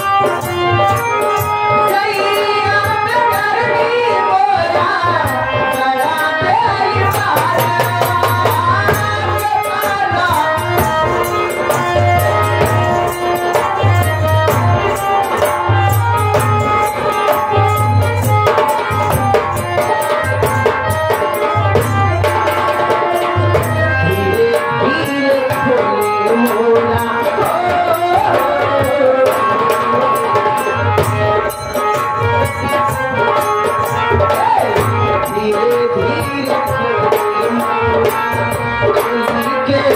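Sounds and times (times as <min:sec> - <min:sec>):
person singing: 0:00.0 - 0:17.2, 0:18.5 - 0:39.9.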